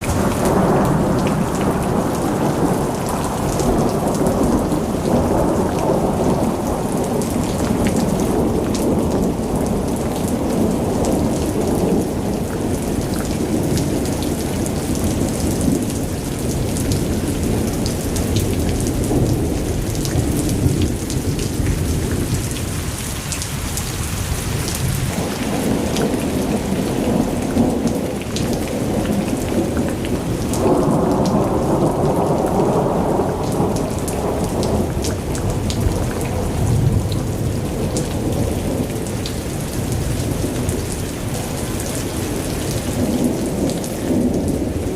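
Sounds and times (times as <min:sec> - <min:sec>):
heavy rain falling: 0:00.0 - 0:44.9
rain drops splashing: 0:00.0 - 0:44.9.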